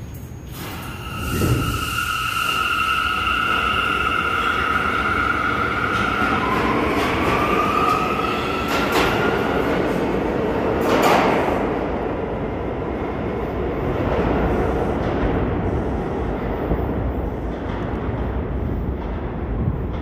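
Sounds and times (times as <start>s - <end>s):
subway train wheels rumbling: 0.0s - 20.0s.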